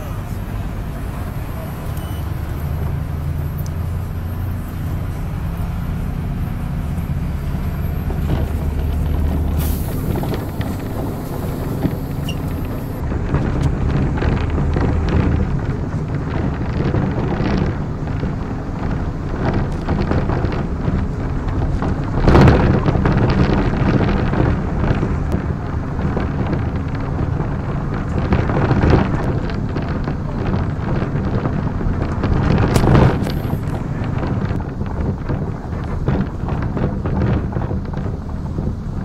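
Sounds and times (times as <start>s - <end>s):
bus engine drone: 0.0s - 39.0s
road noise: 0.0s - 39.0s.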